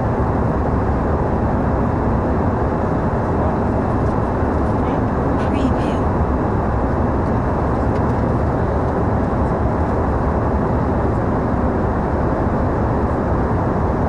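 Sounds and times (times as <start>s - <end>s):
airliner cabin engine and air rush: 0.0s - 14.0s.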